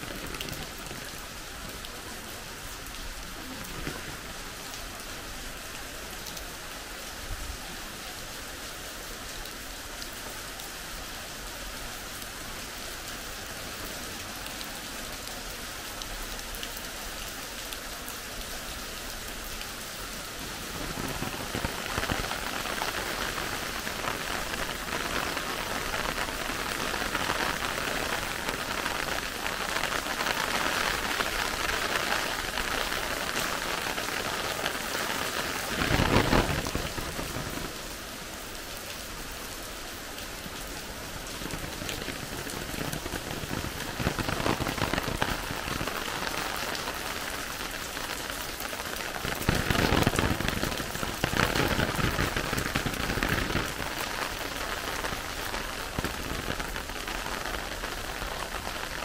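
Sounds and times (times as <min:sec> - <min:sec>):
rain pattering on surfaces: 0:00.0 - 0:59.0.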